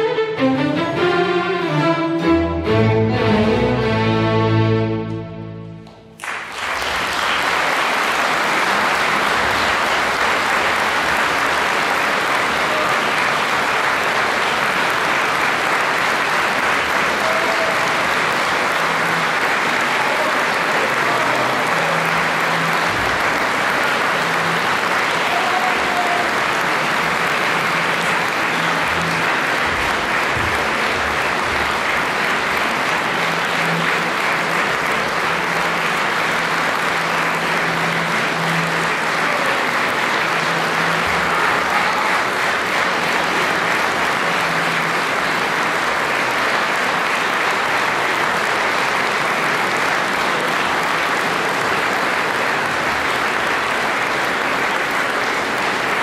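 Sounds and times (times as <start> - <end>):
audience applauding: 5.8 - 56.0.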